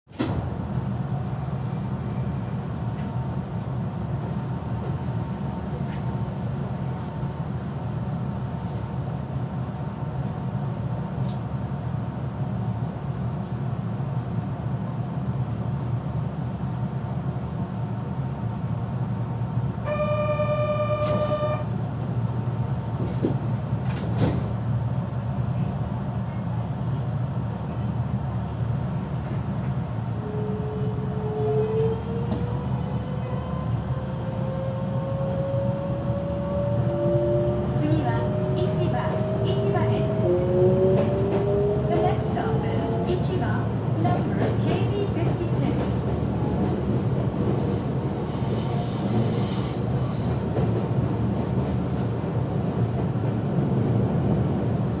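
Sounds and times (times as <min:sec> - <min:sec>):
train rumble: 0:00.1 - 0:55.0.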